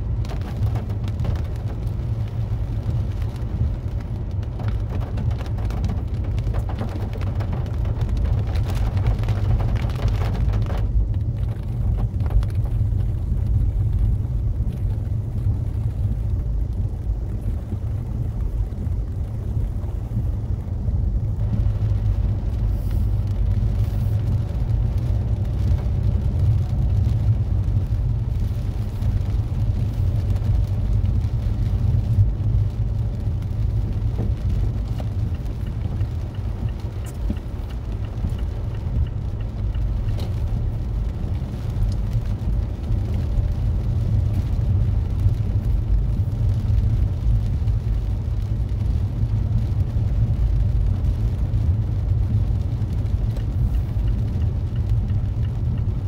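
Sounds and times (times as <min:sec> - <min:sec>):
low road rumble inside car: 0:00.0 - 0:56.0.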